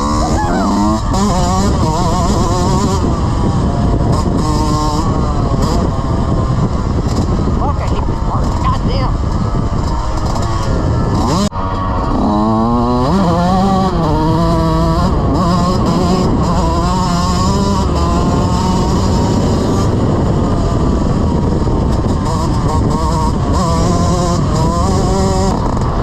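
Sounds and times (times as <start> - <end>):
dirt bike engine revving: 0.0 - 26.0
wind rumble on microphone: 0.0 - 26.0.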